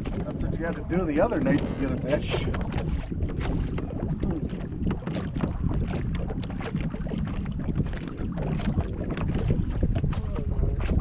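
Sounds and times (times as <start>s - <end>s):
waves lapping against boat hull: 0.0s - 11.0s
wind buffeting microphone: 0.0s - 11.0s.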